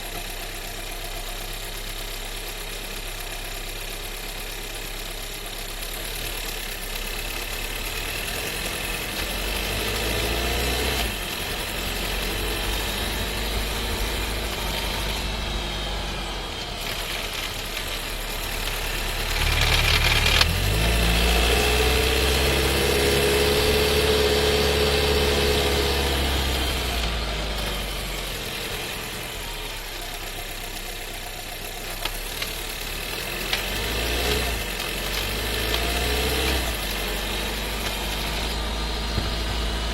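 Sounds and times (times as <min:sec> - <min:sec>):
car engine while driving: 0:00.0 - 0:39.9
car rattling: 0:07.3 - 0:39.9.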